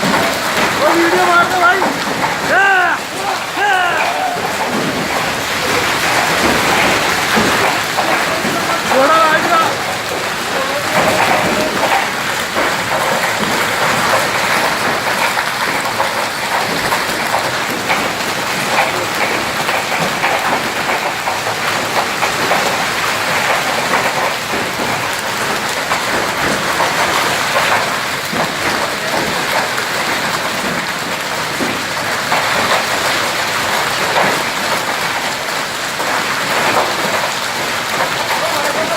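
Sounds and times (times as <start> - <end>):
hailstones hitting: 0.0 - 38.9
heavy rain: 0.0 - 38.9.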